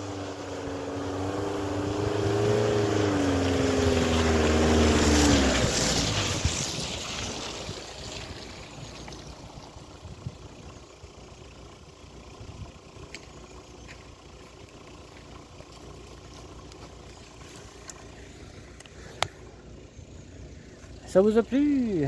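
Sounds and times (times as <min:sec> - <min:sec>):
distant car engine: 0:00.0 - 0:22.0.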